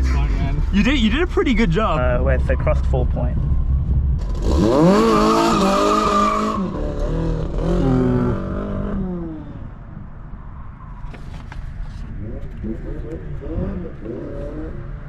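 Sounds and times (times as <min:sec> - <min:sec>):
car engine revving: 0:00.0 - 0:10.0, 0:11.1 - 0:15.0.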